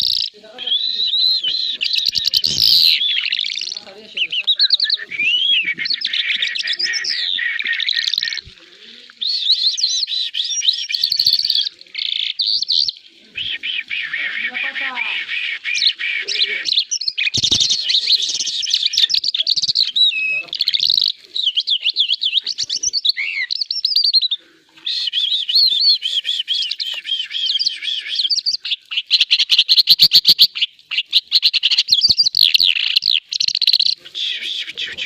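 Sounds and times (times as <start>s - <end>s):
songbird warbling and trilling: 0.0s - 35.0s.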